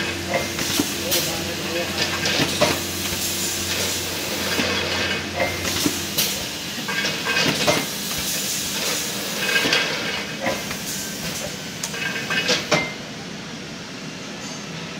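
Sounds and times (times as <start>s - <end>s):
filling machine running: 0.0s - 12.8s.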